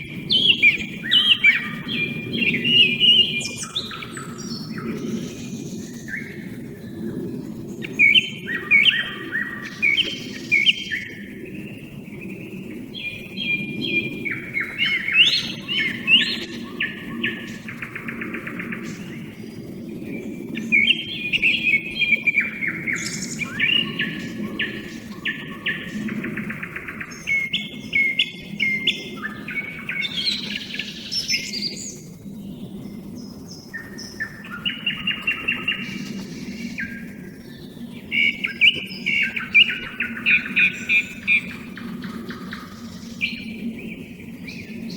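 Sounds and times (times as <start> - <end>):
small birds calling: 0.0 - 44.9
thrush and nightingale singing: 0.0 - 44.9.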